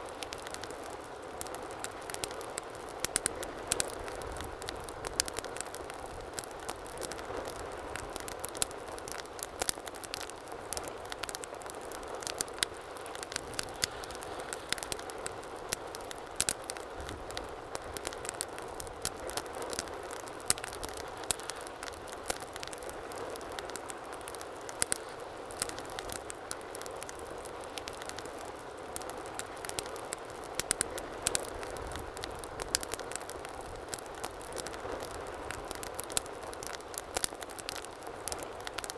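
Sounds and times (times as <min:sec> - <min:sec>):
logs crackling and popping: 0:00.0 - 0:38.9.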